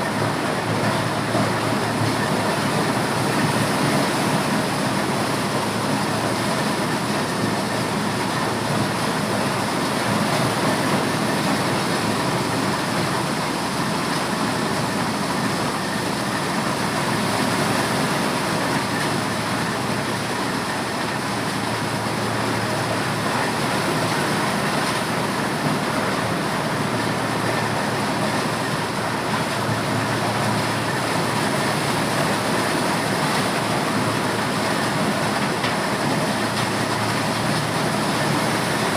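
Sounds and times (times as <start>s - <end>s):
corn sheller running: 0.0s - 38.9s.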